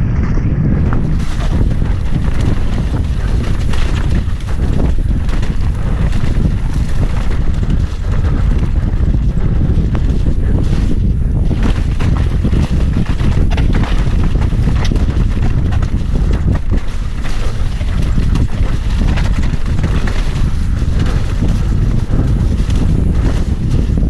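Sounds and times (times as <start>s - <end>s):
wind buffeting microphone: 0.0s - 24.0s
mountain bike rattles and knocks: 0.1s - 24.0s.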